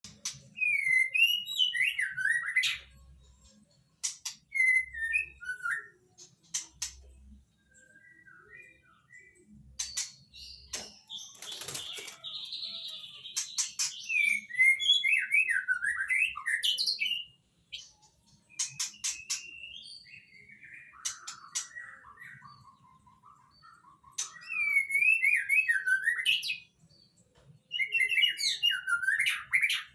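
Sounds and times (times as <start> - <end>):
bird singing whistles and chirps: 0.1 - 3.0, 4.0 - 27.1, 27.7 - 29.9.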